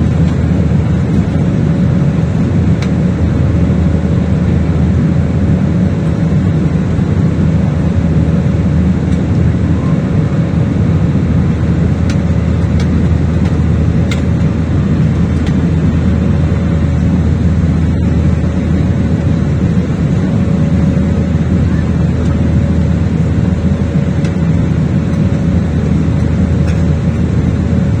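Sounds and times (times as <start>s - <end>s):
airliner cabin engine noise: 0.0s - 28.0s.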